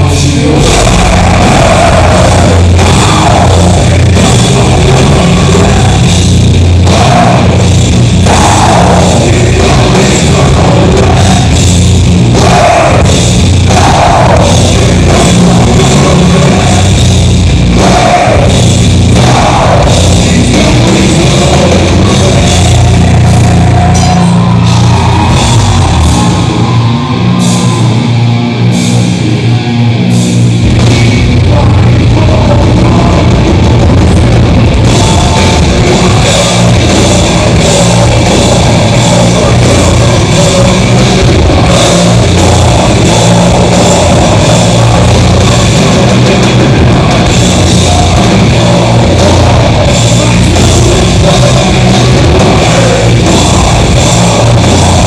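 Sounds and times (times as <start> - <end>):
deep bass: 0.0 - 55.0
distorted guitars: 0.0 - 55.0
drum kit: 0.0 - 55.0
heavy metal band playing live: 0.0 - 55.0.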